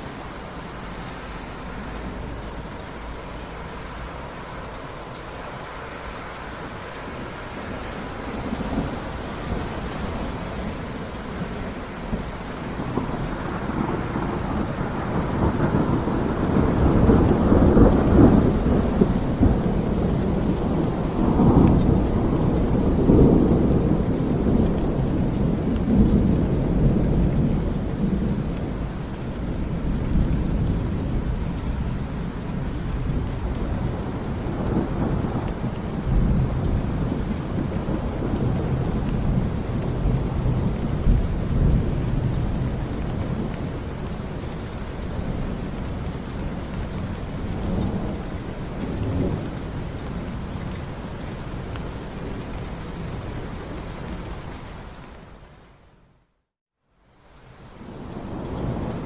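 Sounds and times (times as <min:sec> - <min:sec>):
steady rain: 0:00.0 - 0:59.0
low thunder rumbling: 0:06.7 - 0:54.2.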